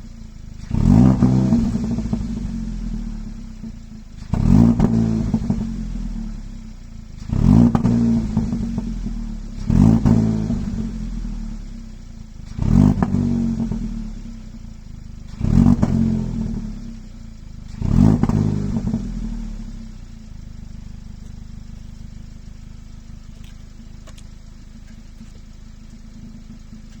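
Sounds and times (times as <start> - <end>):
car engine idling: 0.0 - 27.0
car engine revving: 0.0 - 27.0.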